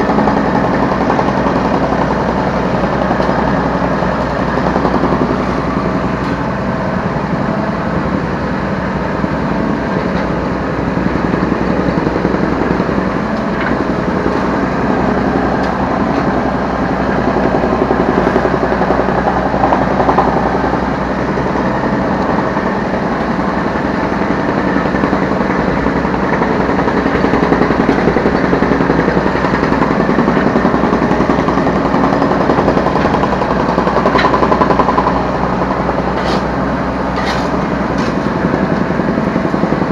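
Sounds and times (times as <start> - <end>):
mini excavator diesel engine running: 0.0 - 39.9.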